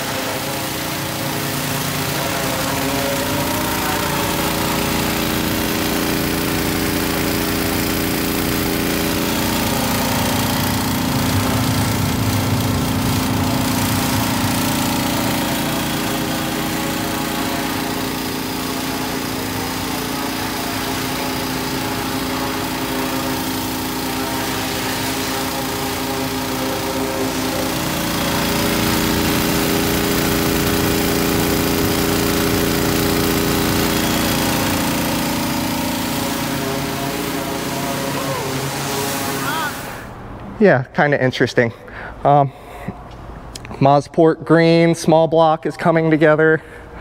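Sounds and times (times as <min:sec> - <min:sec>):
high-pressure water spray hissing: 0:00.0 - 0:40.1
small gasoline engine running: 0:00.0 - 0:40.1.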